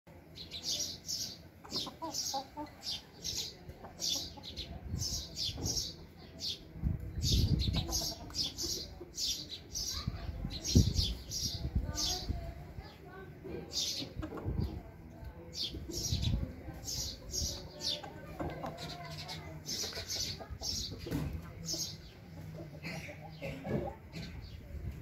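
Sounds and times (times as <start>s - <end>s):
birds chirping: 0.3s - 24.7s
chickens: 0.3s - 25.0s.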